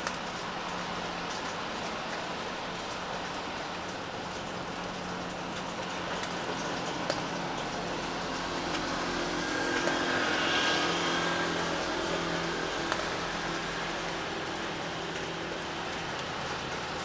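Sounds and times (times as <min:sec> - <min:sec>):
sharp drip clicks: 0:00.0 - 0:17.0
steady rain: 0:00.0 - 0:17.0.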